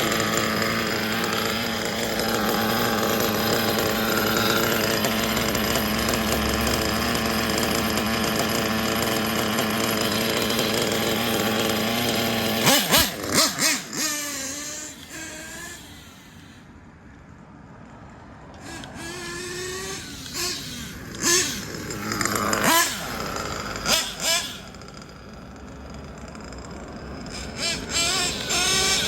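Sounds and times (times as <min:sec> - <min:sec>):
small nitro engine revving: 0:00.0 - 0:16.8, 0:18.5 - 0:29.0.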